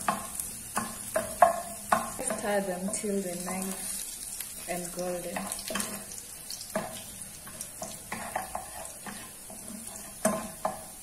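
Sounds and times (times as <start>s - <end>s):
spatula scraping and knocking pan: 0.0s - 4.0s, 5.2s - 11.0s
garlic sizzling in hot oil: 0.0s - 11.0s.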